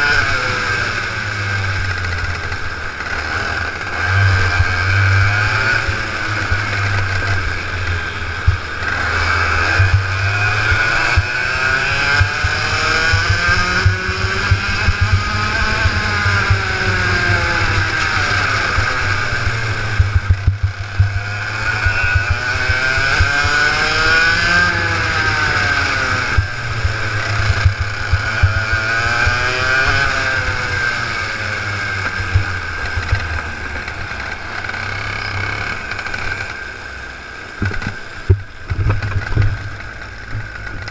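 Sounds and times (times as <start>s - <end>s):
kart engine revving: 0.0s - 40.9s.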